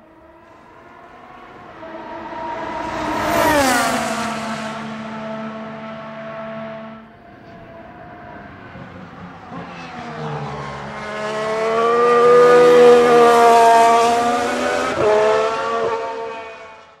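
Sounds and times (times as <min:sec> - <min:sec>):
racing car passing at speed: 0:00.0 - 0:17.0.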